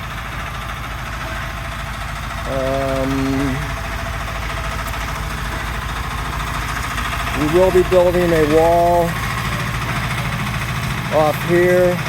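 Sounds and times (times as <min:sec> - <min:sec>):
engine chugging rumble: 0:00.0 - 0:12.0.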